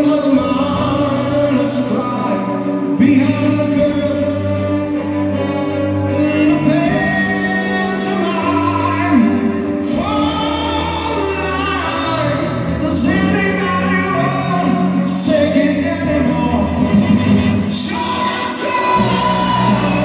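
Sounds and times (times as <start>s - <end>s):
person singing: 0.0s - 20.0s
symphony orchestra playing: 0.0s - 20.0s.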